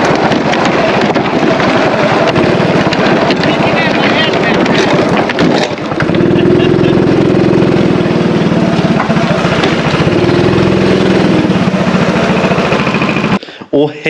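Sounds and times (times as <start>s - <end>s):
engine running with pulsing beat: 0.0s - 13.4s.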